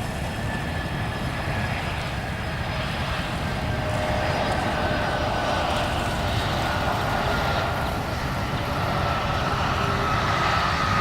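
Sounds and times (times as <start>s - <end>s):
jet engines rumbling and whining: 0.0s - 11.0s.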